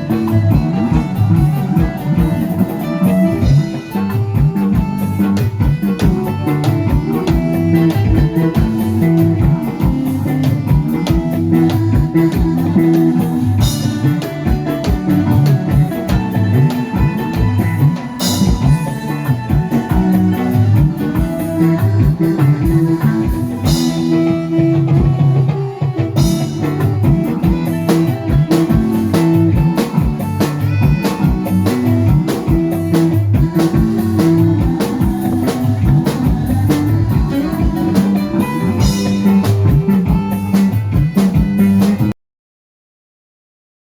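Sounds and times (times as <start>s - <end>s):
drum kit beat: 0.0s - 42.2s
guitar: 0.0s - 42.2s.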